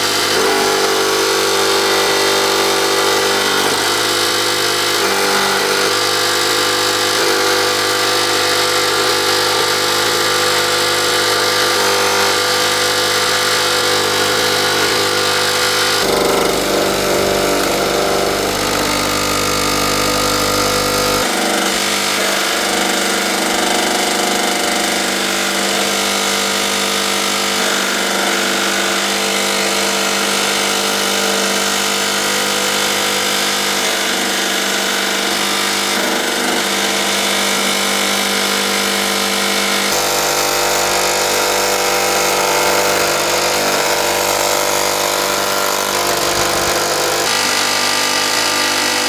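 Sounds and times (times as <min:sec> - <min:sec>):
power tool motor whine: 0:00.0 - 0:49.0.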